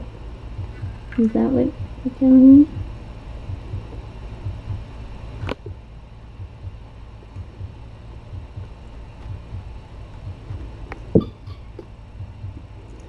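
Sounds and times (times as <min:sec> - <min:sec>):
quiet low rumble: 0:00.0 - 0:13.0.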